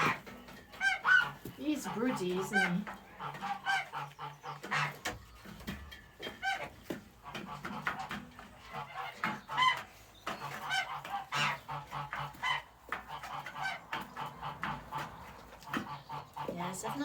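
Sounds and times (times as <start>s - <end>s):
geese honking: 0.0s - 5.1s, 6.3s - 9.8s, 10.4s - 17.0s
chickens clucking: 0.0s - 17.0s.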